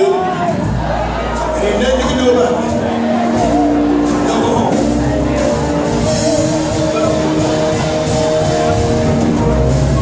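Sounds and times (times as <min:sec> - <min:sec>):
drums and cymbals: 0:00.0 - 0:10.0
live gospel band music: 0:00.0 - 0:10.0.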